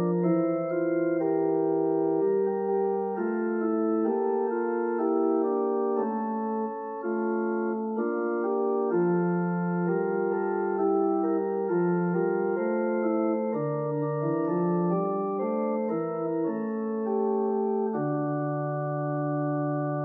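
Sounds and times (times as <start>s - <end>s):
organ chords: 0.0s - 20.0s.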